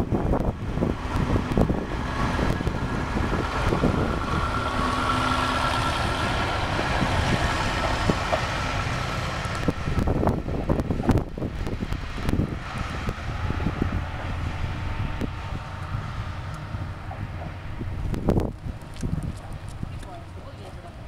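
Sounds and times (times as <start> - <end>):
diesel engine low rumble: 0.0 - 21.0
wind buffeting microphone: 0.0 - 21.0.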